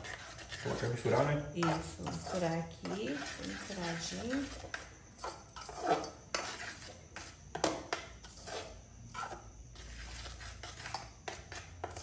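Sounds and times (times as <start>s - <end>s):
metal spoon scraping saucepan: 0.0s - 12.0s.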